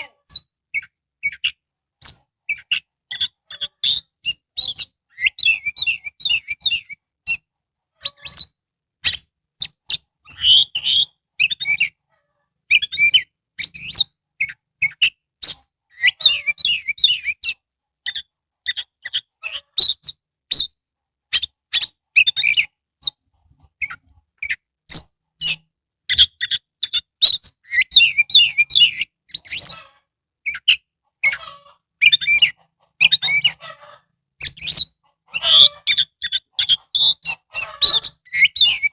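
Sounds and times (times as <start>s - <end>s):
songbird whistling and warbling: 0.0s - 12.0s, 12.7s - 29.8s, 30.4s - 33.6s, 34.4s - 38.9s.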